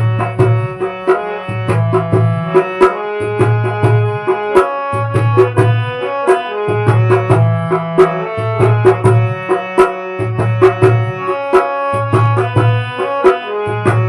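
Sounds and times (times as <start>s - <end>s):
held melody notes: 0.0s - 14.0s
steady drum beat: 0.0s - 14.0s.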